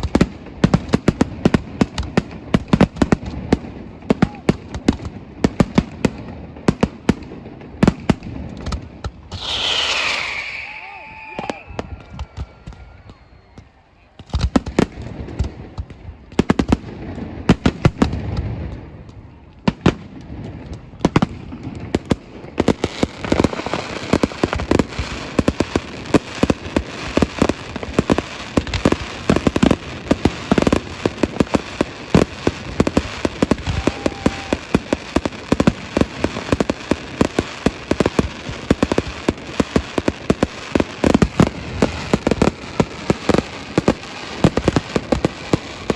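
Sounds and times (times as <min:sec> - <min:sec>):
fireworks crackling: 0:00.0 - 0:13.4, 0:14.3 - 0:45.9
fireworks bangs: 0:00.0 - 0:45.9.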